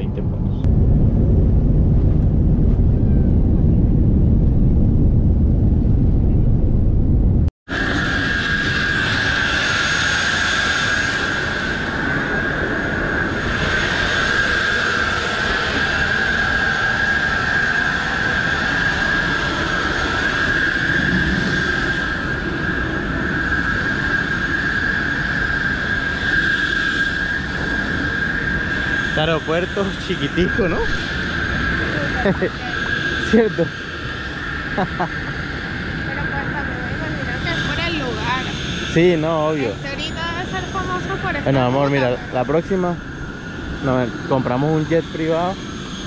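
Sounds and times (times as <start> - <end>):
airliner cabin rumble: 0.0 - 46.0
continuous rushing noise: 0.0 - 46.0
jet engine high whine: 0.0 - 46.0.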